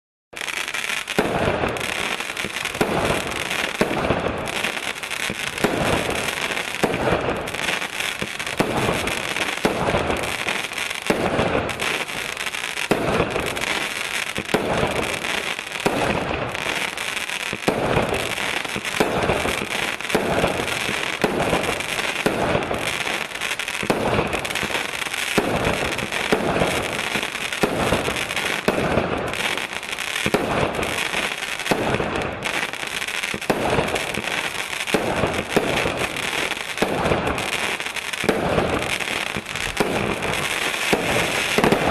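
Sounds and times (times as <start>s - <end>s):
fireworks crackling hiss: 0.4s - 41.9s
fireworks shots firing: 0.4s - 41.9s.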